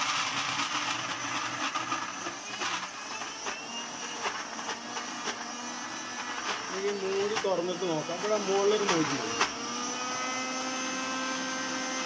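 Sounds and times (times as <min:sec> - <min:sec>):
mixer grinder whirring: 0:00.0 - 0:12.0.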